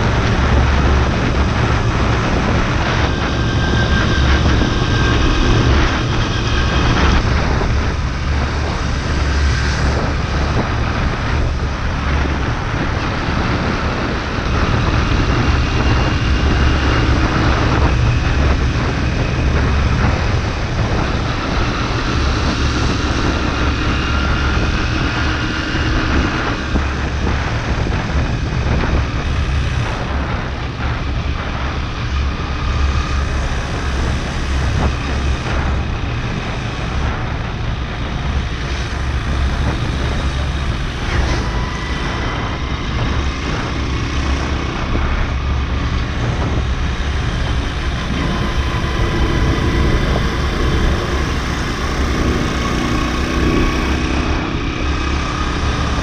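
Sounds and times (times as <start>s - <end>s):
motorbike engine drone: 0.0s - 56.0s
wind buffeting microphone: 0.0s - 56.0s.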